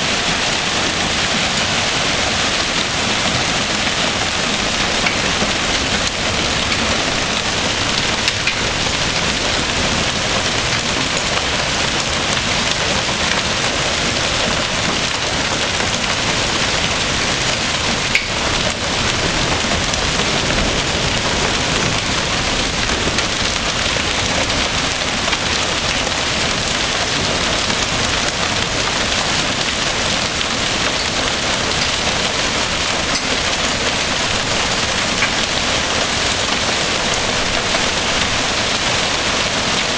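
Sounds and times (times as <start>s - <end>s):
hail and heavy rain: 0.0s - 39.9s.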